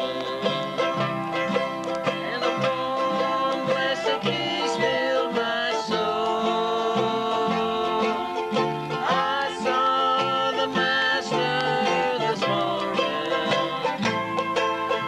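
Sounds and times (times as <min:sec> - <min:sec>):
plucked acoustic strings bluegrass tune: 0:00.0 - 0:15.0.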